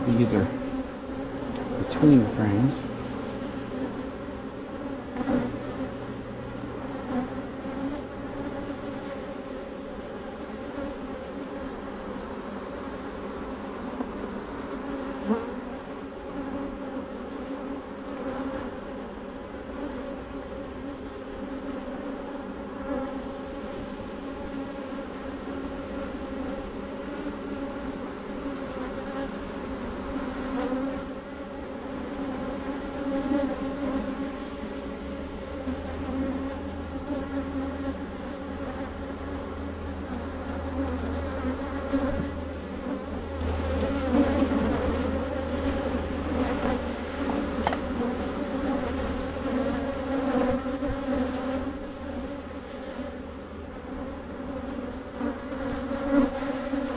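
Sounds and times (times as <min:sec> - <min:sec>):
honeybees buzzing: 0:00.0 - 0:56.9.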